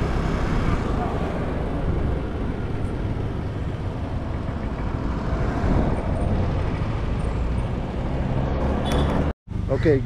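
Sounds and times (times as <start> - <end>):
road rumble: 0.0 - 10.0
wind: 0.0 - 10.0.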